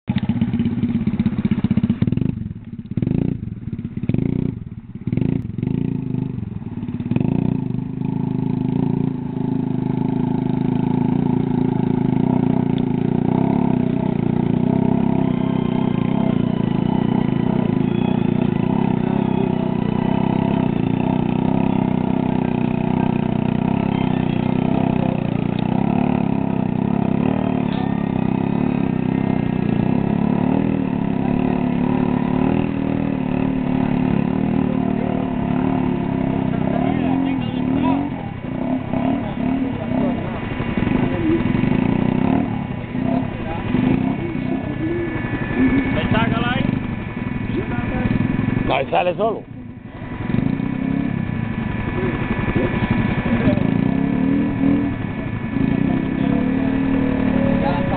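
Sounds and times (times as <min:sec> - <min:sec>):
quad engine revving: 0:00.0 - 0:57.9.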